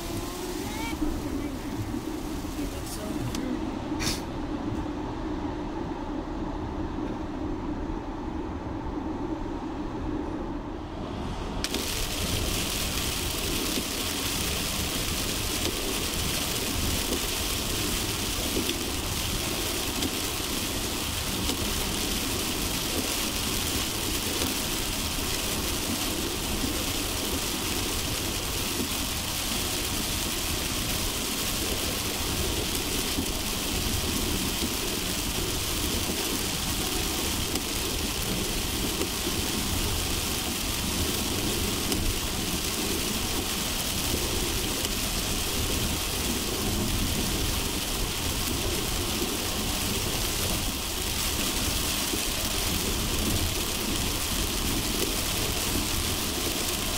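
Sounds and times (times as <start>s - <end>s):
rain hissing: 0.0s - 5.0s, 11.6s - 56.9s
tyre and road noise: 0.0s - 56.9s.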